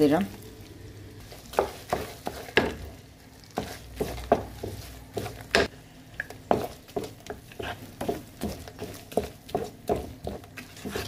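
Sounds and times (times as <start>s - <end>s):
wooden spoon scraping frying pan: 1.2s - 5.7s, 6.5s - 11.0s.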